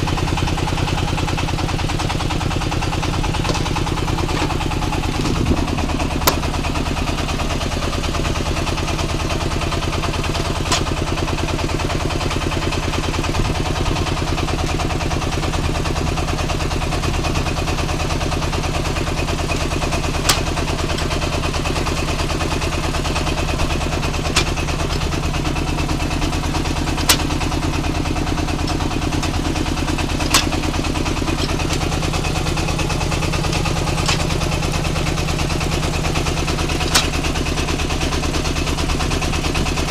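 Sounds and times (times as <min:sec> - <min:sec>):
brick-making machine running: 0:00.0 - 0:39.9.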